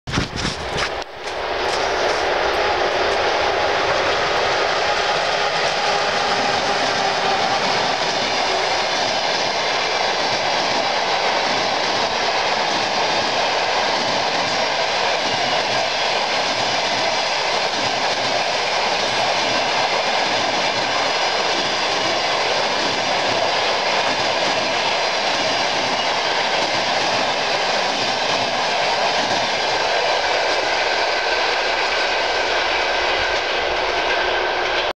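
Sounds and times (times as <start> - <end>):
train wheels rolling on rails: 0.1 - 34.9.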